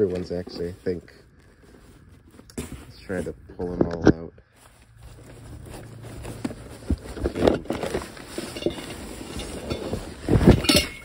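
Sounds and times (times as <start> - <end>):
plastic wrapping rustling: 0.0 - 3.7, 4.5 - 11.0.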